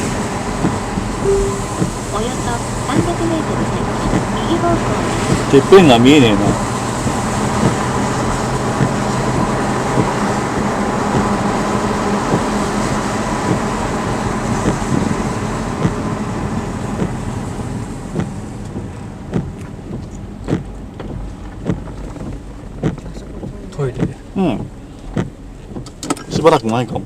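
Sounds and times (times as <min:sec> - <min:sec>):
low engine hum: 0:00.0 - 0:27.0
road and tyre noise: 0:00.0 - 0:27.0.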